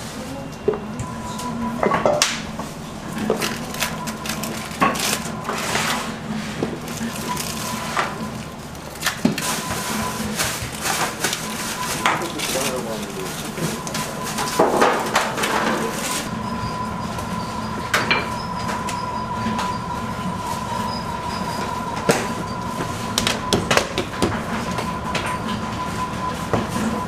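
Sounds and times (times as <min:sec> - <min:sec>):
machine hum with whine: 0:00.0 - 0:27.0.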